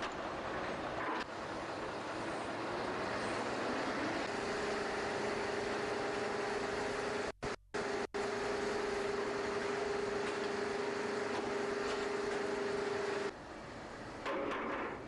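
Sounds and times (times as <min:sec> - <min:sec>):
machine drone: 0:00.0 - 0:13.4.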